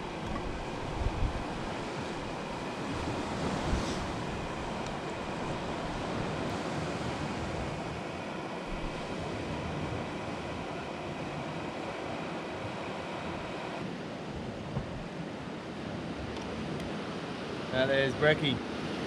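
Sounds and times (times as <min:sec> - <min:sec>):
ocean surf washing on shore: 0:00.0 - 0:19.0
wind gusting on microphone: 0:00.0 - 0:19.0.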